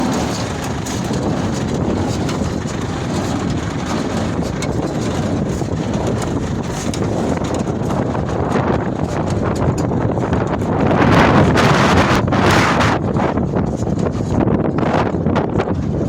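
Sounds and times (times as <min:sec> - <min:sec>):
baler running: 0:00.0 - 0:16.0
wind buffeting microphone: 0:00.0 - 0:16.0.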